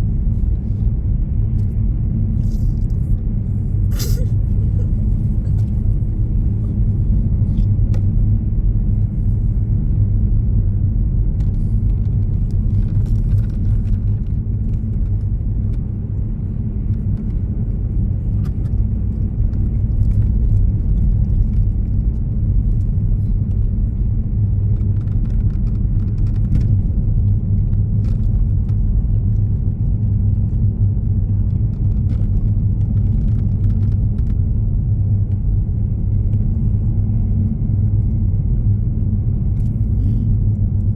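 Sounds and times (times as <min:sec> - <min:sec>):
vehicle engine and tyre noise: 0:00.0 - 0:40.9.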